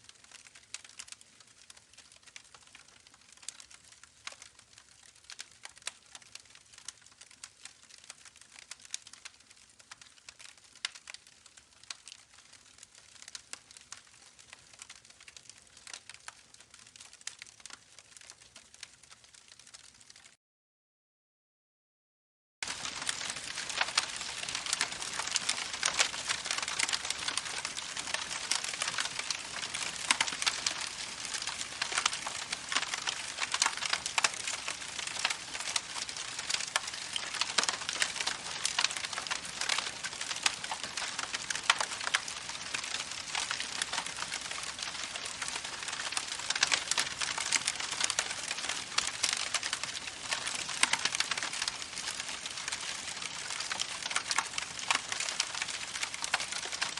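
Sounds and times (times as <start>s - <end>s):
campfire crackling and popping: 0.0s - 20.3s, 22.6s - 56.9s.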